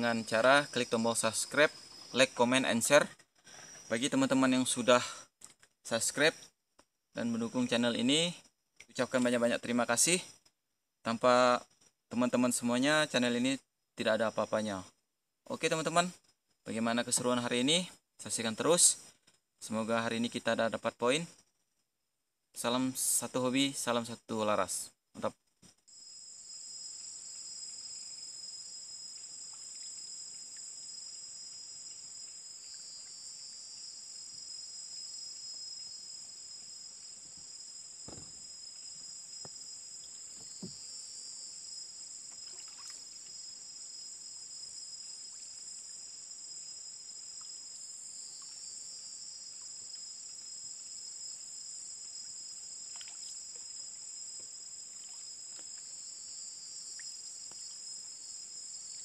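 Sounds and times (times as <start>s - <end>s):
chorus of forest insects: 0.0s - 6.6s, 7.2s - 21.6s, 22.6s - 59.0s
second insect call: 0.0s - 6.6s, 7.2s - 21.6s, 22.6s - 59.0s.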